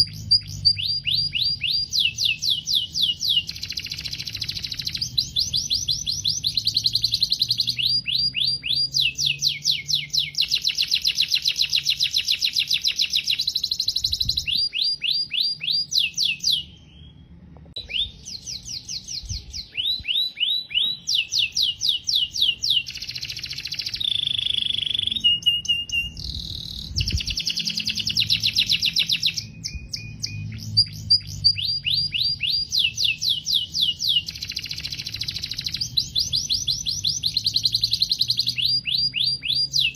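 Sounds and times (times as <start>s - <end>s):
canary singing rapid trills: 0.0s - 17.2s, 17.8s - 39.9s.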